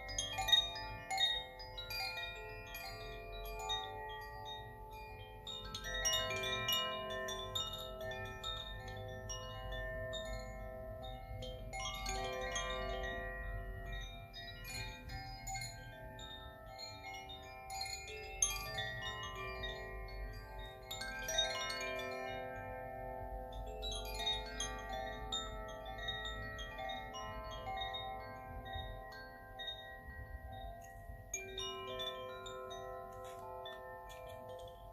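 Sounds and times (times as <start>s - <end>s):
chimes ringing: 0.0s - 34.9s.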